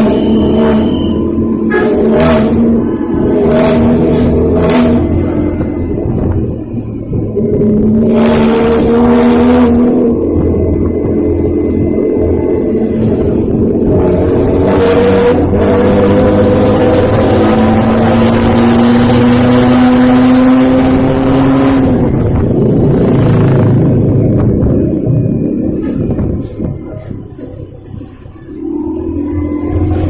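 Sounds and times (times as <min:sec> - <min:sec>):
bus diesel engine revving: 0:00.0 - 0:30.0.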